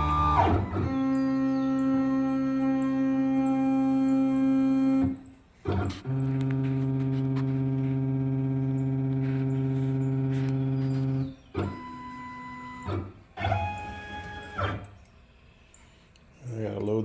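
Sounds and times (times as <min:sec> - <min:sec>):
stepper motors whining: 0:00.0 - 0:15.1.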